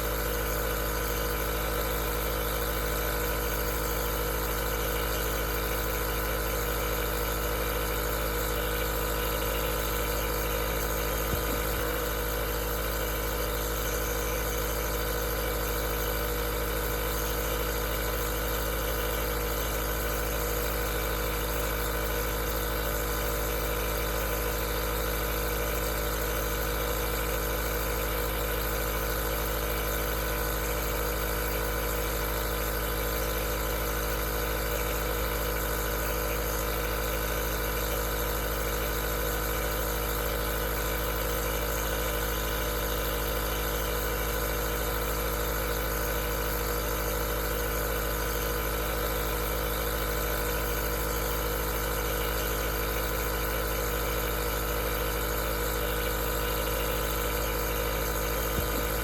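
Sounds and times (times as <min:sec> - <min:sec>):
nebulizer humming and hissing: 0:00.0 - 0:59.0.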